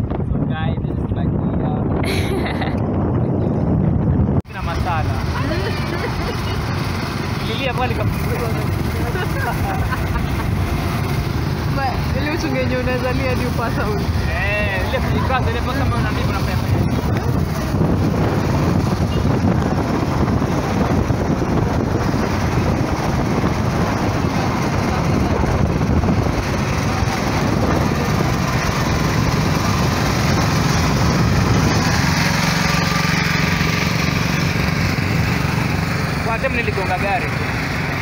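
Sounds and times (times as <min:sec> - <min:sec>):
motorcycle engine running: 0:00.0 - 0:38.0
wind and road rush: 0:00.0 - 0:38.0.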